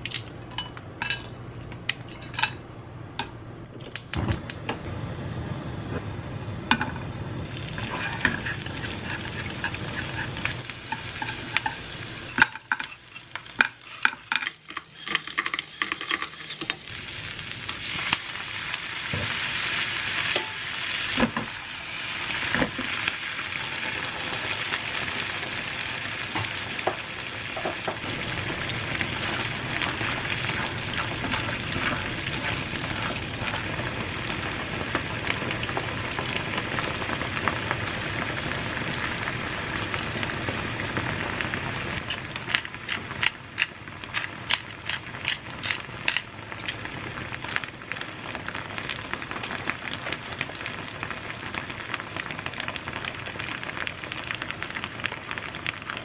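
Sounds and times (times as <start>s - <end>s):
clams sizzling in a frying pan: 6.8s - 56.0s.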